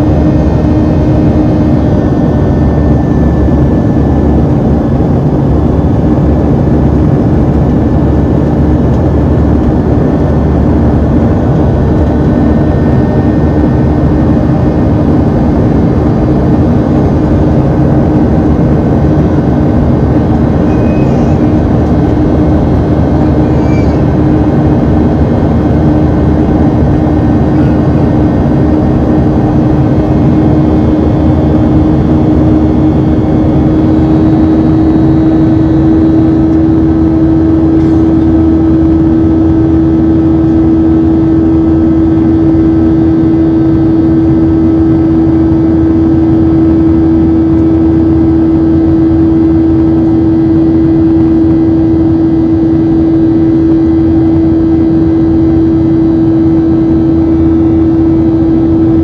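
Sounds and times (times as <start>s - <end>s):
jet engine drone in cabin: 0.0s - 59.0s.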